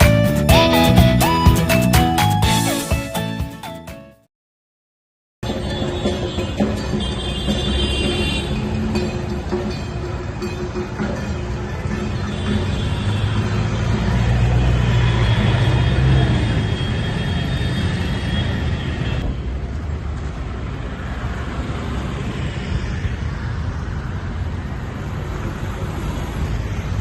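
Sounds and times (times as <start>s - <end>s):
street traffic: 0.0s - 3.4s, 5.4s - 27.0s.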